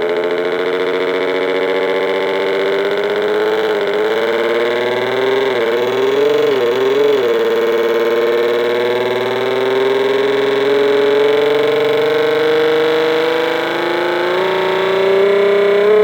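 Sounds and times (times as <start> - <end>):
distorted engine-like electronic buzz: 0.0 - 16.0.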